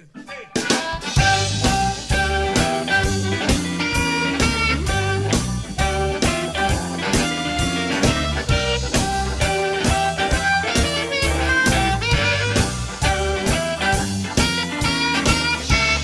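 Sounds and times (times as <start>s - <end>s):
drums keeping a steady beat: 0.0s - 16.0s
swing blues band playing: 0.0s - 16.0s.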